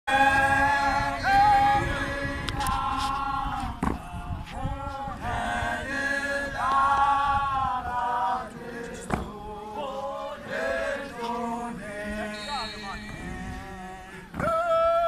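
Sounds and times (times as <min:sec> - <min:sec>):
men singing a hymn: 0:00.1 - 0:15.0.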